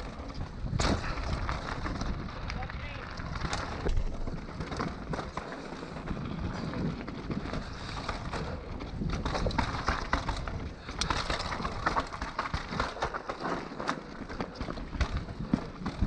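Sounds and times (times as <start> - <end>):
bike rattling: 0.0 - 16.0
tyres grinding over dirt: 0.0 - 16.0.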